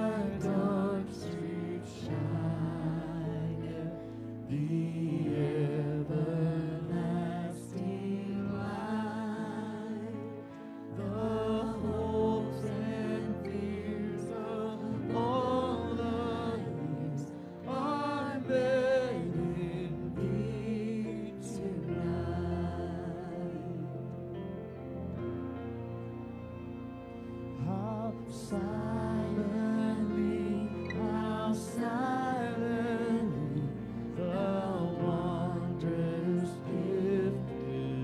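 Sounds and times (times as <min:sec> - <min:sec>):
slow church worship music: 0:00.0 - 0:38.0.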